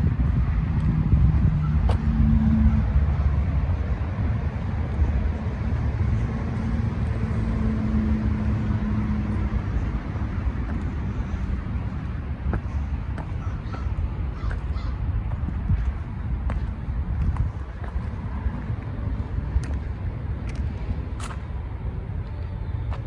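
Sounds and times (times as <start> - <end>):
road traffic rumble: 0.0 - 23.0
vehicle engine hum: 0.0 - 23.0.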